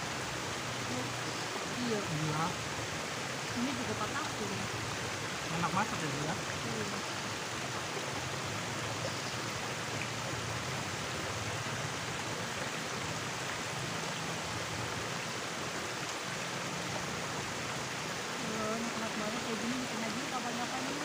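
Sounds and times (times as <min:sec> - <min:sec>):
babbling river water: 0:00.0 - 0:21.0.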